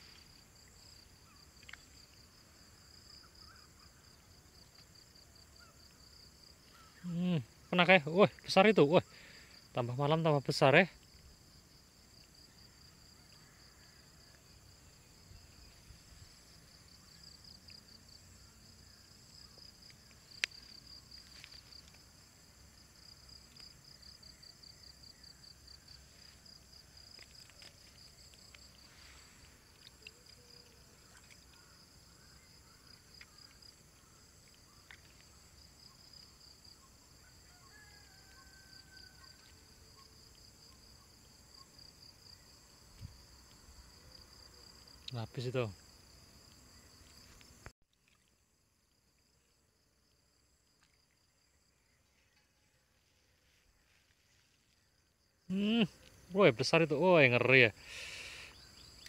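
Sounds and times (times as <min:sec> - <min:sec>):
insects trilling: 0:00.0 - 0:47.7, 0:48.4 - 0:59.0.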